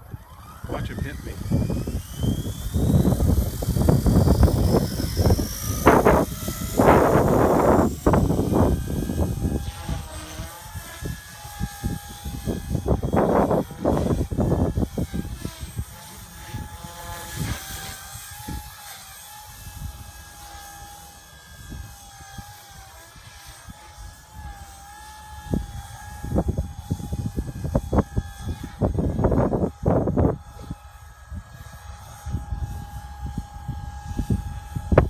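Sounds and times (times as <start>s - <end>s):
rc helicopter whine: 0.0s - 35.0s
wind buffeting microphone: 0.0s - 35.0s.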